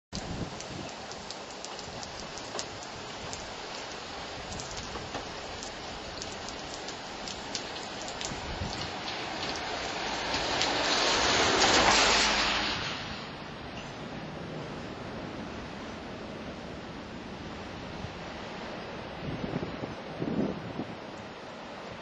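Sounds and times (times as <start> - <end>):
driving rain: 0.1 - 22.0
storm-force wind: 0.2 - 22.0.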